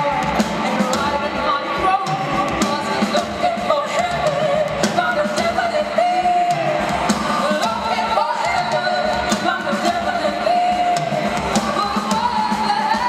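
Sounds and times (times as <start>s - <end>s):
drums: 0.0s - 13.0s
woman singing lead: 0.0s - 13.0s.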